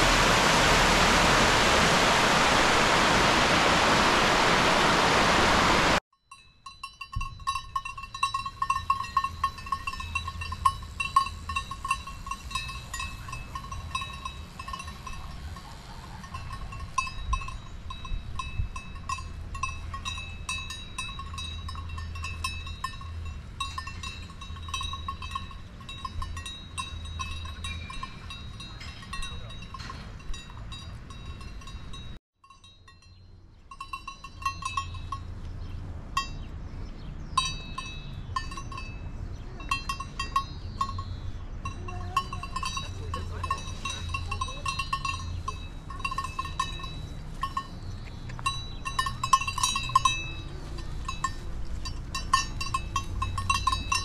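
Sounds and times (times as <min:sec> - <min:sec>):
goat bells clinking: 0:06.2 - 0:36.6, 0:37.3 - 0:54.0.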